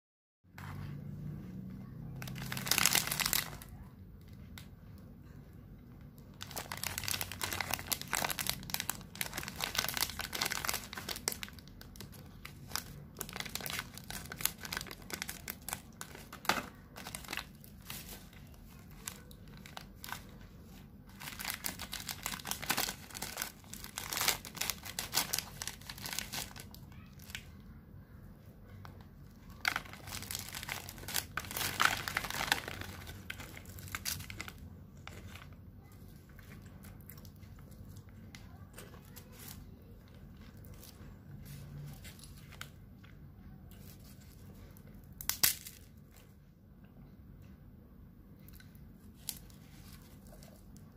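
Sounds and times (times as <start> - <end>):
plastic wrapper crinkling: 2.1 - 4.7, 6.2 - 27.6, 28.9 - 43.1, 43.7 - 46.2, 48.5 - 50.9.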